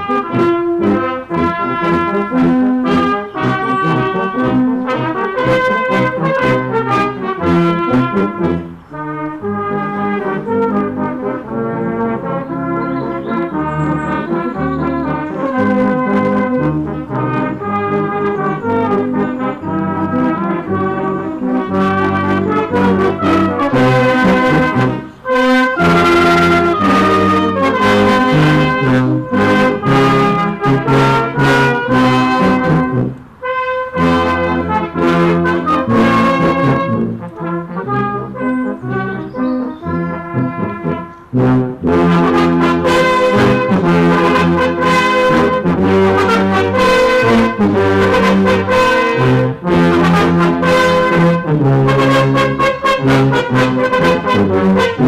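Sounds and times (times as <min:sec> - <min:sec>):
brass instruments playing tune: 0:00.0 - 0:55.0.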